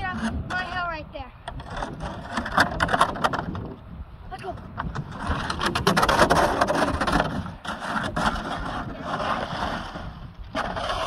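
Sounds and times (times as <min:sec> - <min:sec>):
plastic sled scraping over snow: 0:00.0 - 0:11.0.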